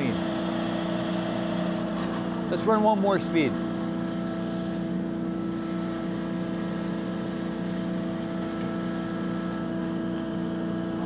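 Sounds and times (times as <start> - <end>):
lathe running with steady hum: 0.0 - 11.0.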